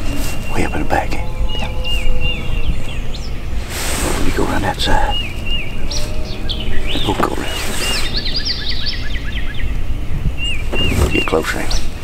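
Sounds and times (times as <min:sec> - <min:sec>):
songbirds singing: 0:00.0 - 0:12.0
steady low rumble: 0:00.0 - 0:12.0.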